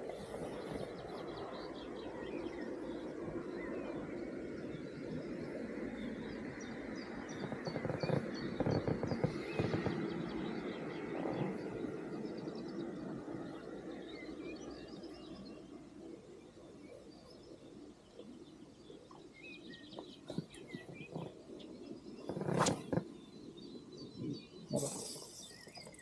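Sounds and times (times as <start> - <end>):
noisy haze: 0.0 - 26.0
small birds chirping: 0.0 - 26.0.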